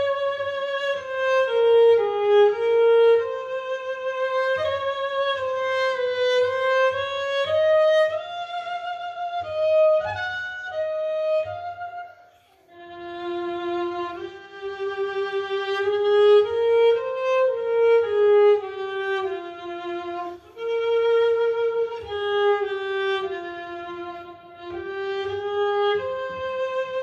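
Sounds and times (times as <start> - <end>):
bowed cello melody: 0.0 - 27.0.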